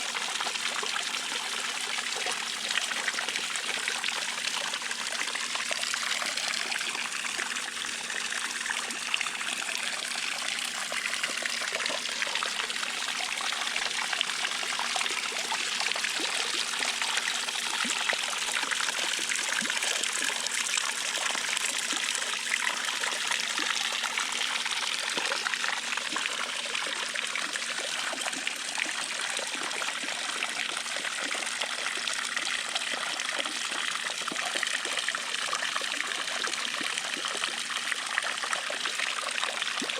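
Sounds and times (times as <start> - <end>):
faint steady hum: 0.0 - 39.9
water splashing into pool: 0.0 - 39.9.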